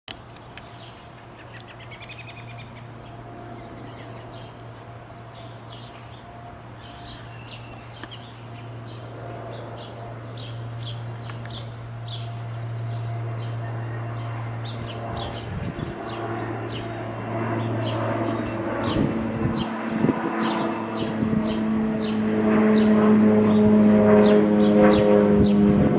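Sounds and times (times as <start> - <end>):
high insect whine: 0.1 - 25.9
propeller plane drone: 0.1 - 25.9
birds chirping: 0.2 - 25.9.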